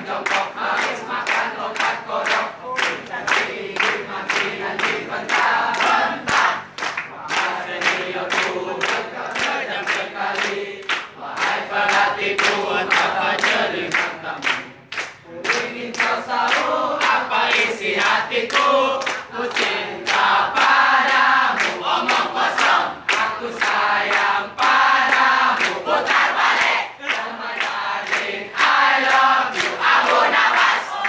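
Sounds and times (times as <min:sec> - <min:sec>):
group of people singing: 0:00.0 - 0:31.0.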